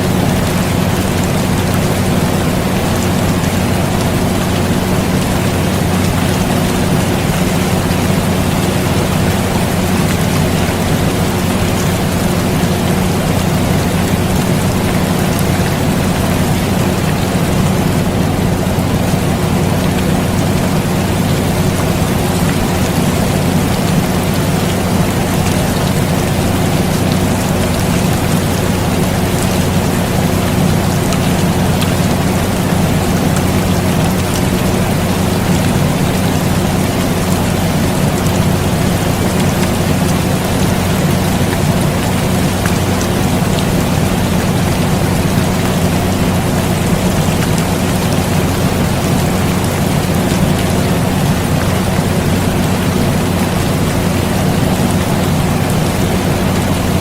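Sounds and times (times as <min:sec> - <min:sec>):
air conditioner hum: 0:00.0 - 0:57.0
rain drop ticks: 0:00.0 - 0:57.0
steady rain hiss: 0:00.0 - 0:57.0.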